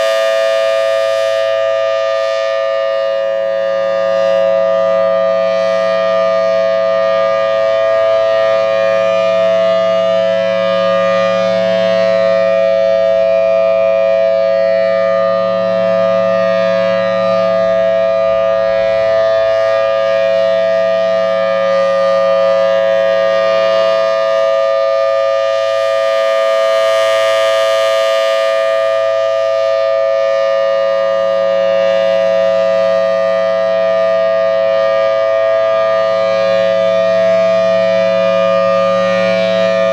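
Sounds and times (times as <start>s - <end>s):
warning siren two-tone chord: 0.0s - 39.9s.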